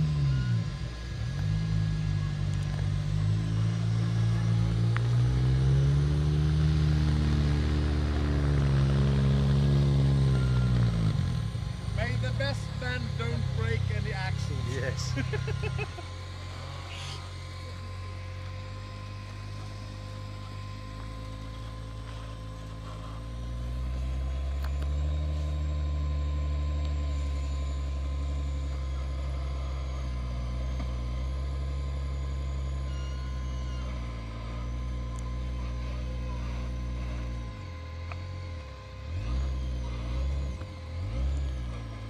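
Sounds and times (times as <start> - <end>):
buggy engine revving: 0.0 - 42.0.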